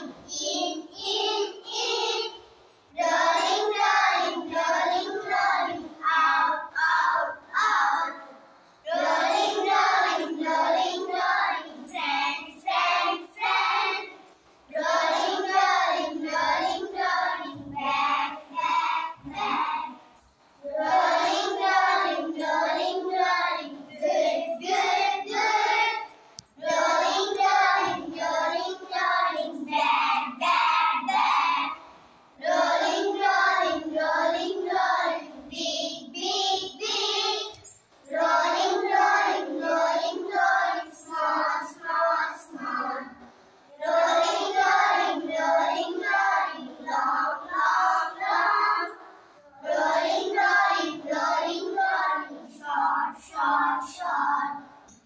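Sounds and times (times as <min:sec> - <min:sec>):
children singing in unison: 0:00.0 - 0:55.0.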